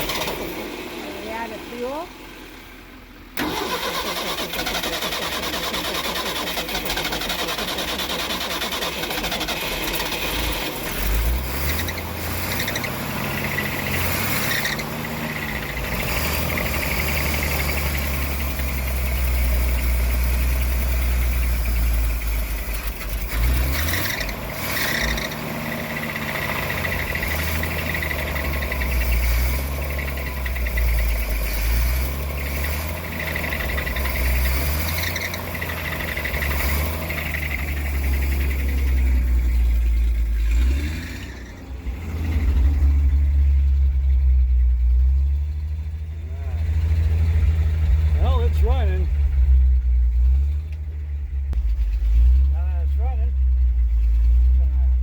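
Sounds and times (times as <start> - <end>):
truck engine starting and running: 0.0 - 55.0.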